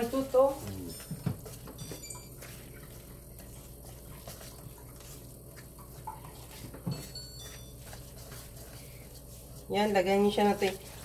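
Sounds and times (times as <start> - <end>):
whisk scratching steel bowl: 0.0 - 11.0.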